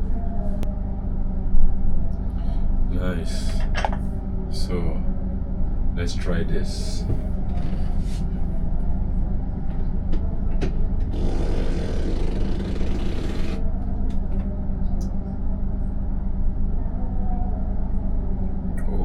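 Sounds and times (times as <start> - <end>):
train carriage low drone: 0.0 - 19.0.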